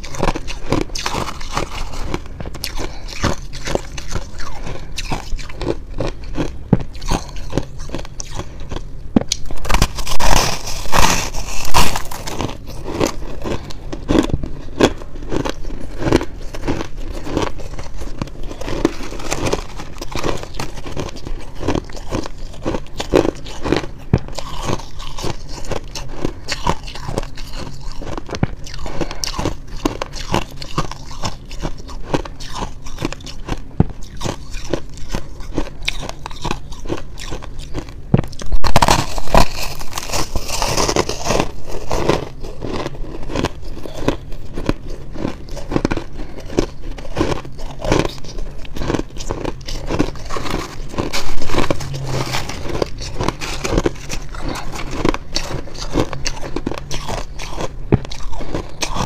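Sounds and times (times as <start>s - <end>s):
shaved ice crunching while chewed: 0.0s - 59.0s.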